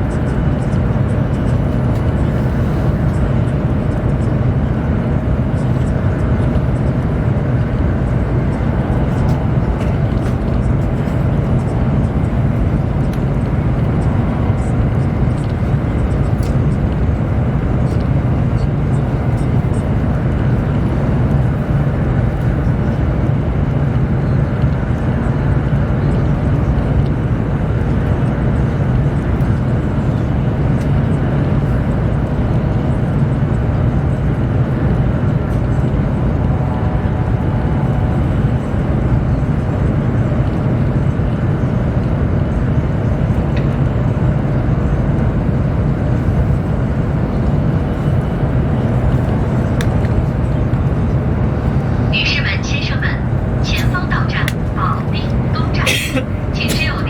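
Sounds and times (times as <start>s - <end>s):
train cabin hum and rush: 0.0s - 57.0s.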